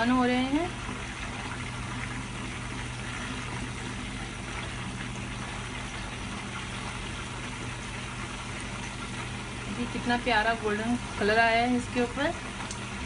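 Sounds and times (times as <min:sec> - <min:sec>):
meat sizzling in hot oil: 0:00.0 - 0:13.0
steady low hum: 0:00.0 - 0:13.0.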